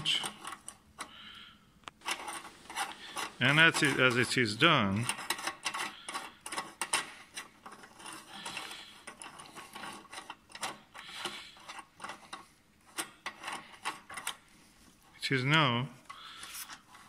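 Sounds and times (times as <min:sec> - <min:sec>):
threads scraping and rubbing: 0:00.0 - 0:01.3, 0:02.0 - 0:17.0.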